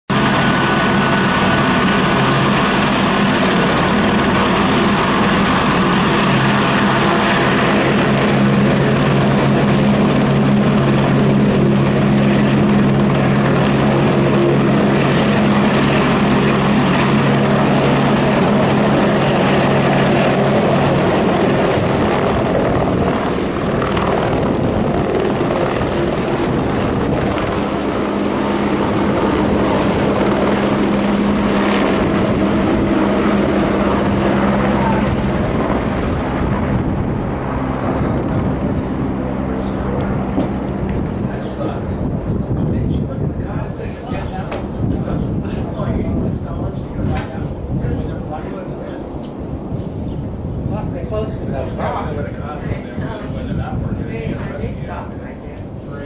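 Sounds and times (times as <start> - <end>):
helicopter taking off: 0.1 - 56.0.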